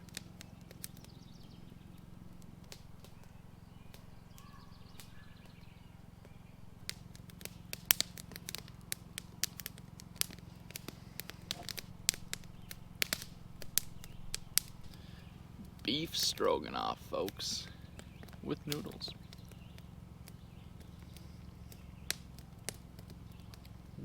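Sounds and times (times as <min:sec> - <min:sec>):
faint low hum: 0:00.0 - 0:24.0
sharp clicks and crackles: 0:00.0 - 0:24.0.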